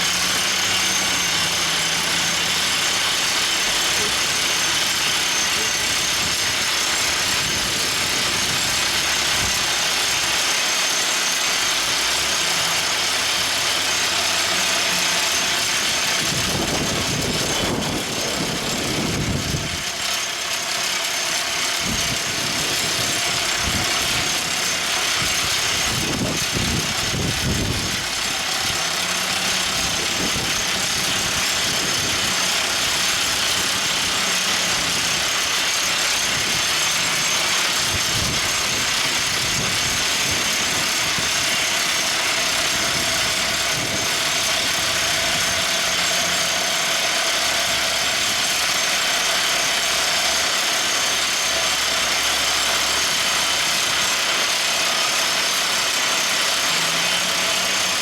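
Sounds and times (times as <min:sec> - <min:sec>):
drill rig engine running: 0:00.0 - 0:58.0.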